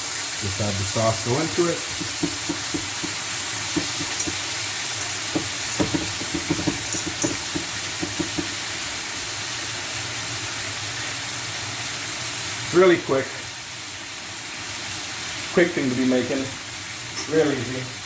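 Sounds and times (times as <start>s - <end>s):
steak sizzling on a grill: 0.0s - 18.0s.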